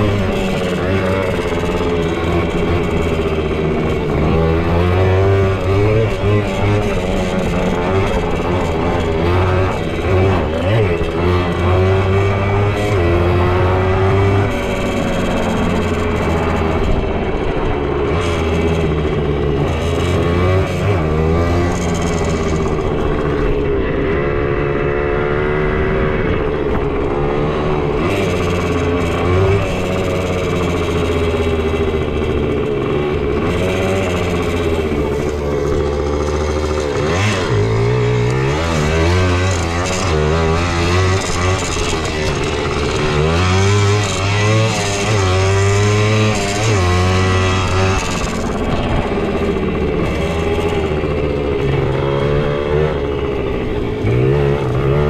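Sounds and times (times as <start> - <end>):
two-stroke motorbike engine revving: 0.0 - 55.0.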